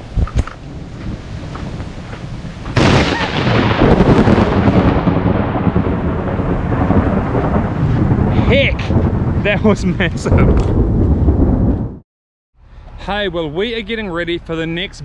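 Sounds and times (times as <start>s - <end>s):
thunderclap and rumble: 0.0s - 12.0s.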